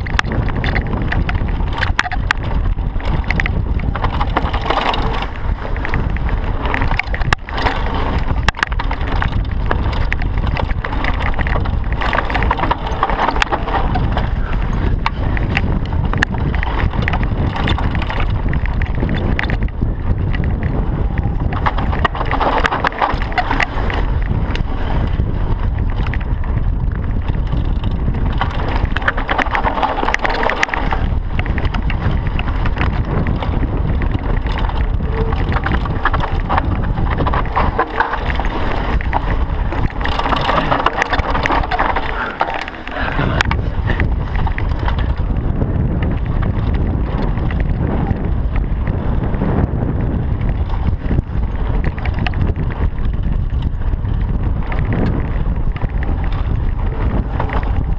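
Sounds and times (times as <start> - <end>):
bike rattling over bumps: 0.0 - 57.9
wind rushing over microphone: 0.0 - 57.9.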